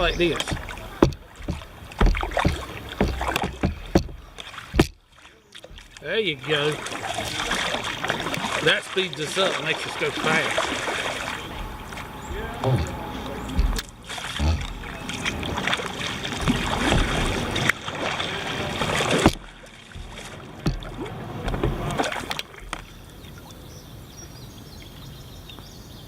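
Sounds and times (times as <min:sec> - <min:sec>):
paddle knocks: 0:00.0 - 0:22.9
paddle splashing in water: 0:00.0 - 0:23.6.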